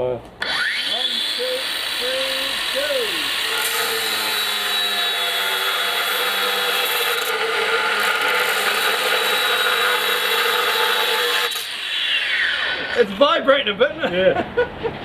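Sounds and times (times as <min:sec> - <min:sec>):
angle grinder cutting metal rod: 0:00.4 - 0:13.1.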